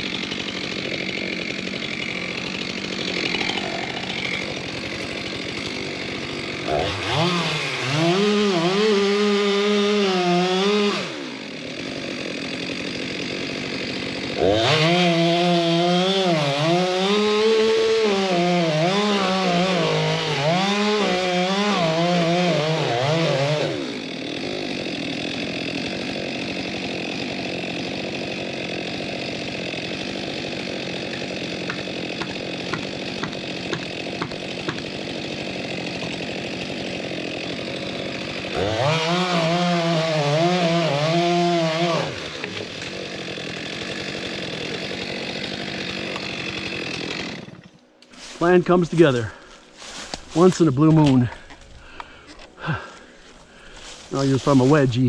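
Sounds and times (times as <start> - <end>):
chainsaw cutting a log: 0.0 - 55.0.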